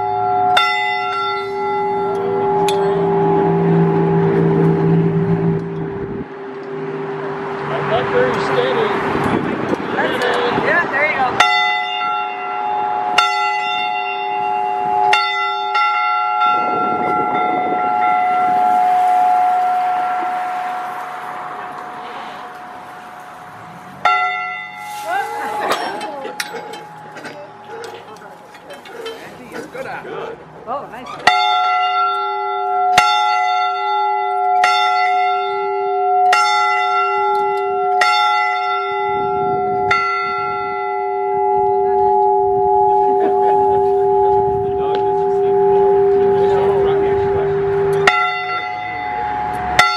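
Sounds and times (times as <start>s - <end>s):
church bell ringing: 0.0s - 9.0s, 10.1s - 29.4s, 31.1s - 49.9s.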